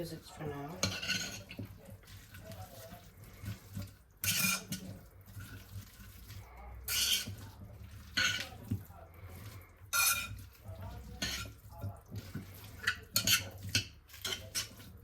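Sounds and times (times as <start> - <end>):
spoon scraping a bowl: 0.0 - 15.0.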